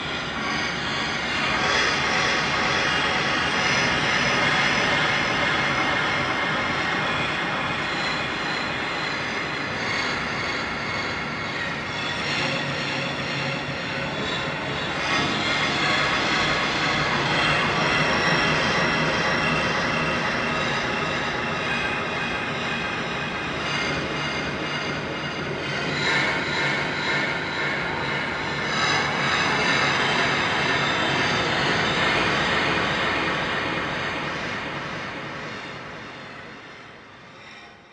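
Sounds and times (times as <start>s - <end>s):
dark noisy drone: 0.0s - 37.9s.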